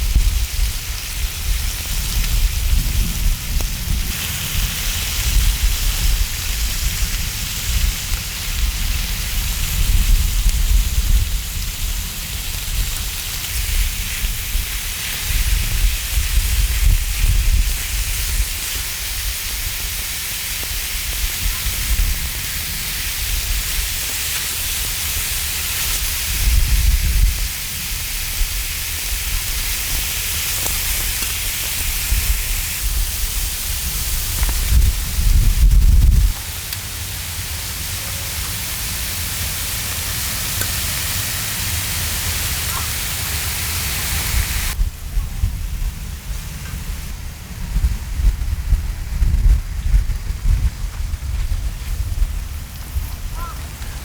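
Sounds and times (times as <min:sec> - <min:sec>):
meat sizzling on a grill: 0:00.0 - 0:53.8.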